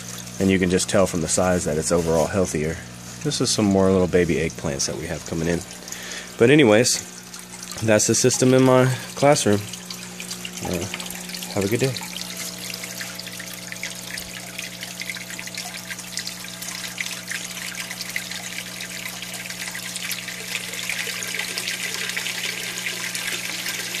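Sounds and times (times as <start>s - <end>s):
water trickling into tank: 0.0s - 24.0s.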